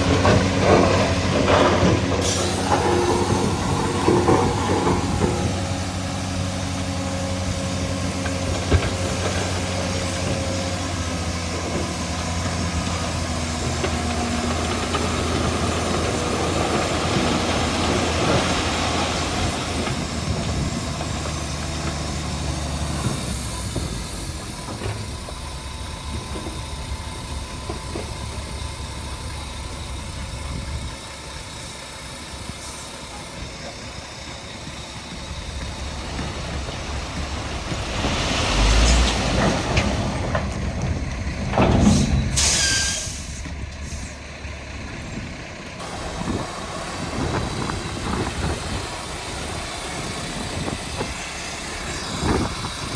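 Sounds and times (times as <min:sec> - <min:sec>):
rushing grinding noise: 0:00.0 - 0:44.0, 0:44.7 - 0:52.9
diesel engine of heavy machinery: 0:00.0 - 0:52.9.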